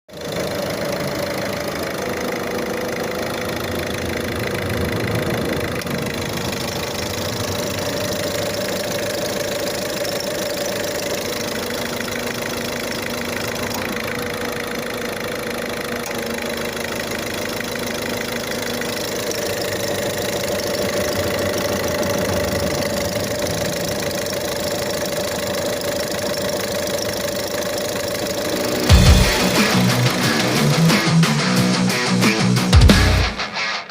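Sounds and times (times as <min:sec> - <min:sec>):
alternator whine: 0:00.1 - 0:33.9
car engine idling: 0:00.1 - 0:33.9.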